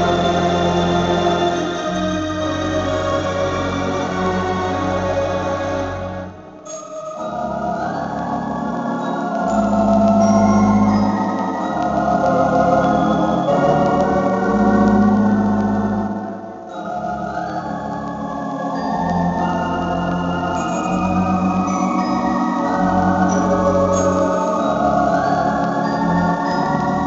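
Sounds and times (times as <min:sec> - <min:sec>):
theatre organ music: 0:00.0 - 0:27.0.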